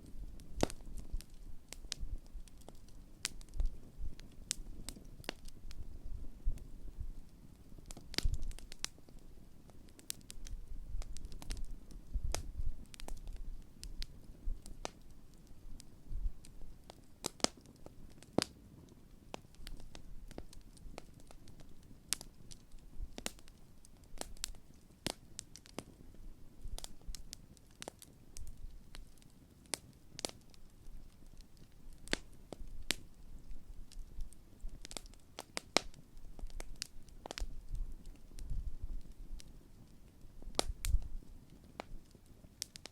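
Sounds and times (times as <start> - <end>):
campfire logs crackling and popping: 0.0 - 42.9
low fire rumble: 0.0 - 42.9.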